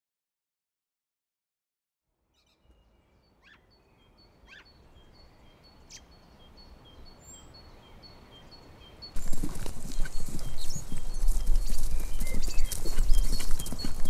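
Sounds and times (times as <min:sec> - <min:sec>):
faint outdoor ambience: 0:02.1 - 0:14.0
sharp bird chirps: 0:02.3 - 0:14.0.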